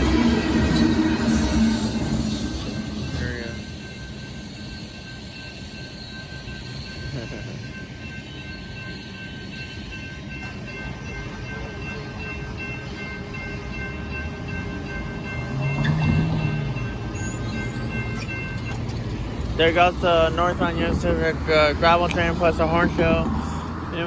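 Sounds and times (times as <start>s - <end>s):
crossing bell dinging: 0.0s - 24.0s
freight train wheels rumbling on rail: 0.0s - 24.0s.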